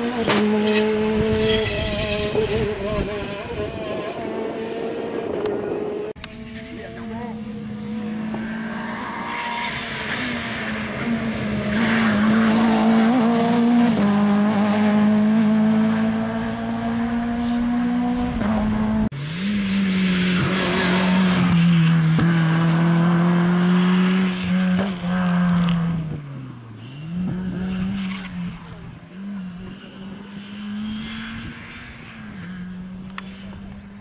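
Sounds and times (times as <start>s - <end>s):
rally car engine revving through gears: 0.0s - 34.0s.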